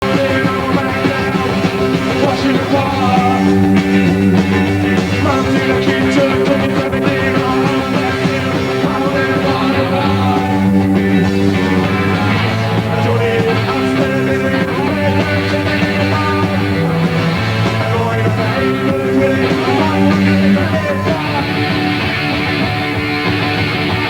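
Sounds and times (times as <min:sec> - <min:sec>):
punk rock band playing: 0:00.0 - 0:24.0.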